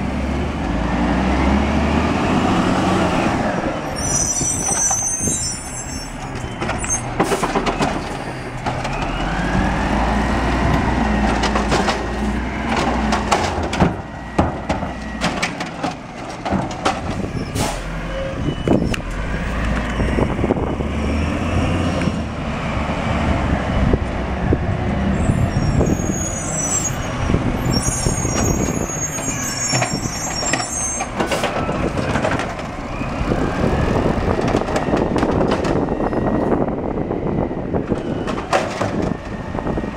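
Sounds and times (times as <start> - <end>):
diesel engine revving: 0.0 - 3.9, 7.0 - 16.4, 17.1 - 39.9.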